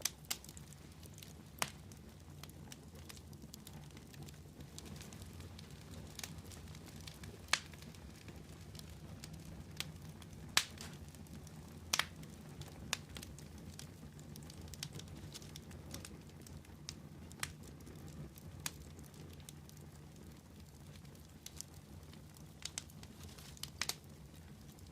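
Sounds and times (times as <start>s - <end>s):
fire crackles and pops: 0.0s - 24.9s
wood fire rumbling: 0.0s - 24.9s.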